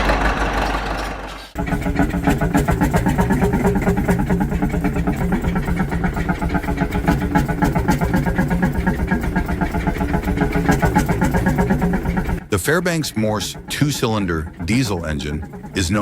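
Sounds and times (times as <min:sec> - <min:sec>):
old engine running rhythmically: 0:00.0 - 0:16.0.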